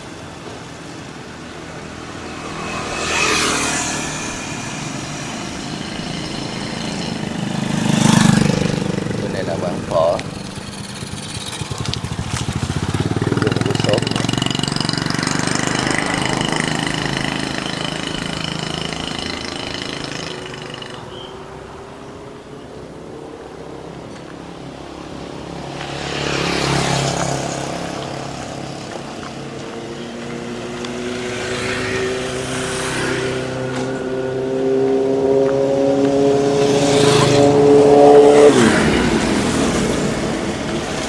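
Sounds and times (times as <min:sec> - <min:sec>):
engine rising in pitch: 0:00.0 - 0:24.0, 0:25.4 - 0:41.0
engine running: 0:00.0 - 0:41.0
vehicles passing loudly: 0:00.0 - 0:41.0.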